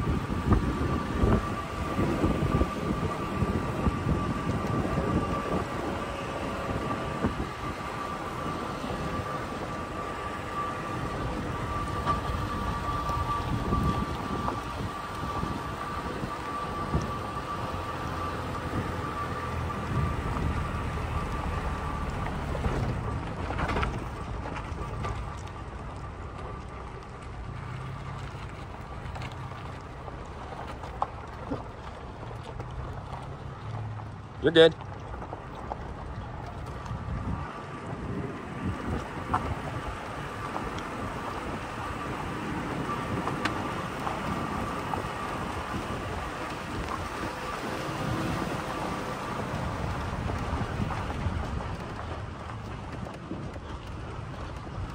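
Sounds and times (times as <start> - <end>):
engine rumble: 0.0 - 54.9
tyres crackling on gravel: 0.0 - 54.9.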